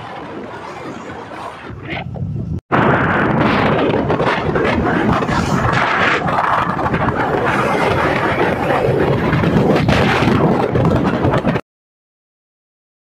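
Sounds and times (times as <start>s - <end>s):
road noise: 0.0s - 11.6s
wind on microphone: 0.0s - 11.6s.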